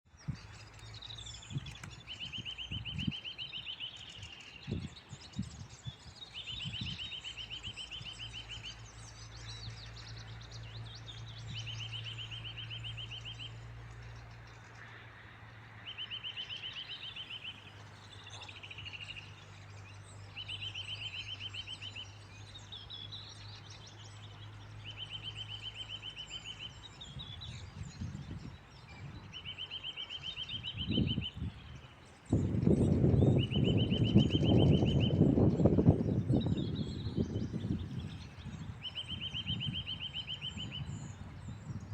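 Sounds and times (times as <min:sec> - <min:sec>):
birds chirping: 0:00.1 - 0:41.9
songbird trilling: 0:00.2 - 0:14.2, 0:15.8 - 0:41.9.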